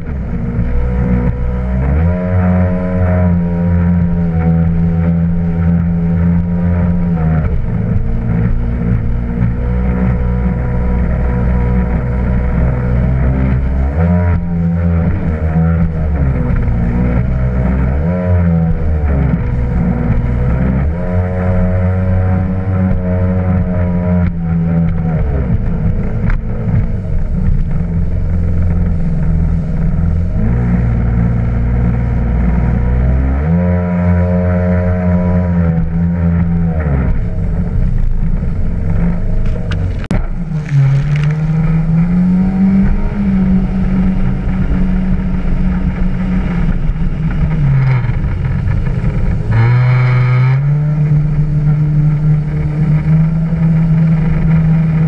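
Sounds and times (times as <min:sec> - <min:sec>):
rush of water: 0:00.0 - 0:55.0
watercraft engine revving: 0:00.0 - 0:55.0.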